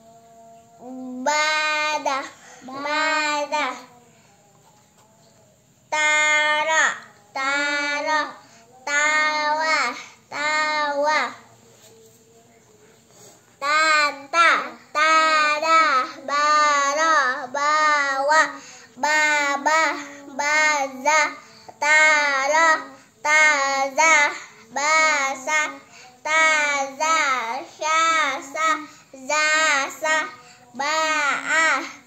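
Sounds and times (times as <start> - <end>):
child chanting syllables: 0.0 - 32.0.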